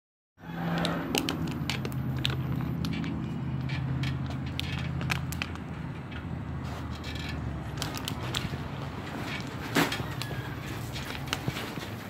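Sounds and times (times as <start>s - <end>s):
bicycle clicking and rattling: 0.5s - 12.0s.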